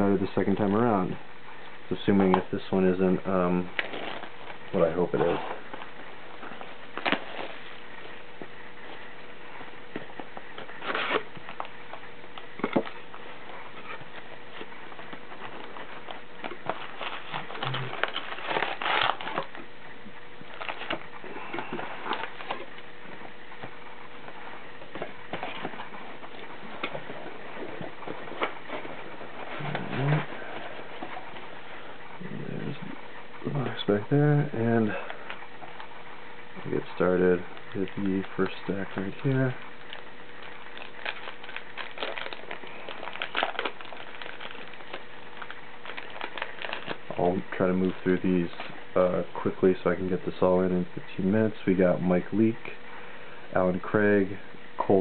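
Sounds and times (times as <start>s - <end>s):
faint steady hum: 0.0s - 55.0s
cardboard and foil packs rustling: 1.9s - 54.1s.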